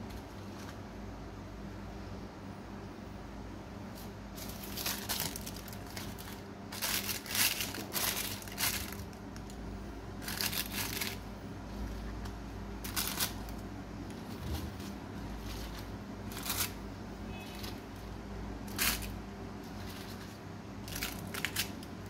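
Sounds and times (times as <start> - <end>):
baking paper crinkling: 0.0 - 0.8, 3.9 - 22.0.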